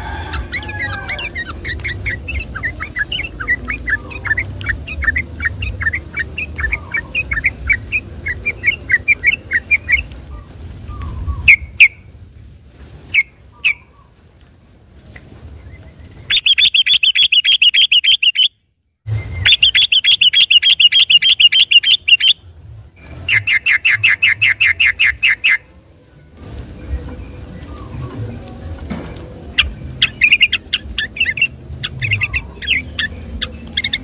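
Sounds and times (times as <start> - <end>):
bulbul singing: 0.0 - 12.1, 15.6 - 34.0.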